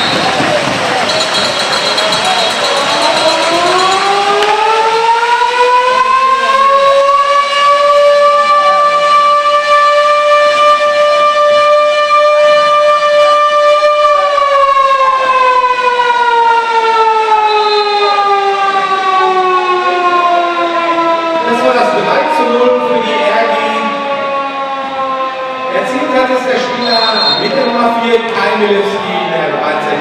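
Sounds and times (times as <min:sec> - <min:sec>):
siren wailing: 0:00.0 - 0:30.0.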